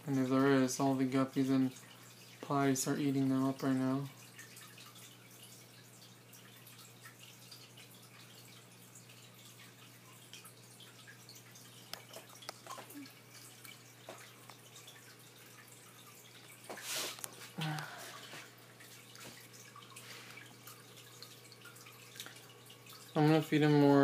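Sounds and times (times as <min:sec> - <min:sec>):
low electrical hum: 0:00.0 - 0:24.0
water trickling and dripping: 0:00.0 - 0:24.0.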